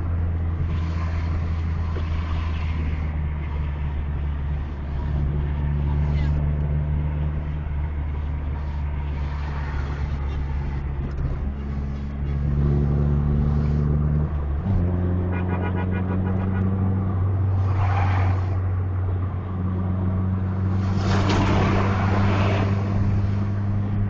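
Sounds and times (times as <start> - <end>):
bus diesel engine drone: 0.0 - 24.0.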